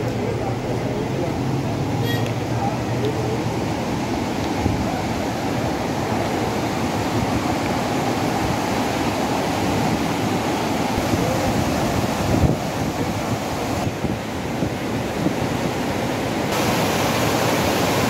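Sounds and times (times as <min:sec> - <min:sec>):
river rushing over rocks: 0:00.0 - 0:18.0.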